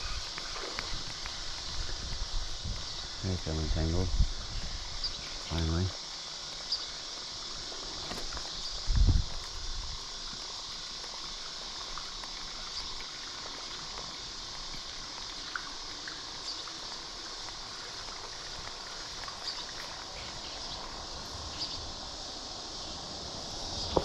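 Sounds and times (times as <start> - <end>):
flowing water: 0.0 - 24.0
insects chirping: 0.0 - 24.0.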